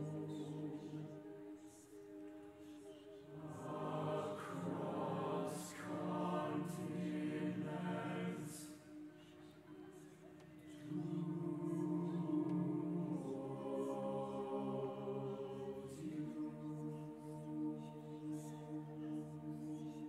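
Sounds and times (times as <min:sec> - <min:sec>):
choir singing a cappella: 0:00.0 - 0:20.0.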